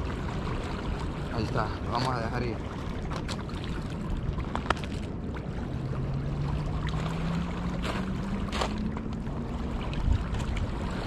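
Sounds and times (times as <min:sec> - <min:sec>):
faint engine drone: 0:00.0 - 0:11.0
river water rushing over rocks: 0:00.8 - 0:11.0.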